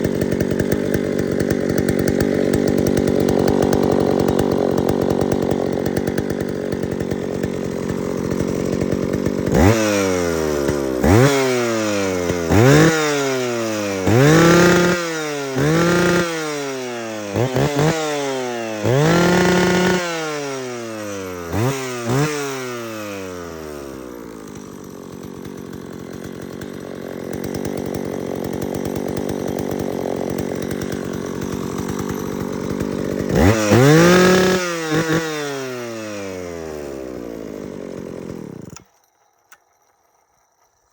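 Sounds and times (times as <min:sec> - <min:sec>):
chainsaw idling and revving: 0:00.0 - 0:40.8.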